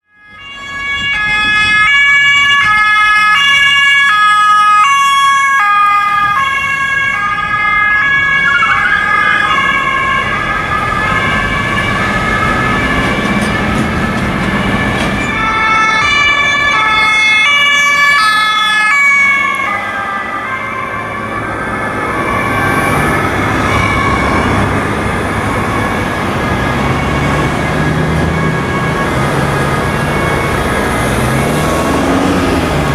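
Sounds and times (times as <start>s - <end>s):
police two-tone sirens: 0.0s - 32.9s
road and engine noise: 0.0s - 32.9s.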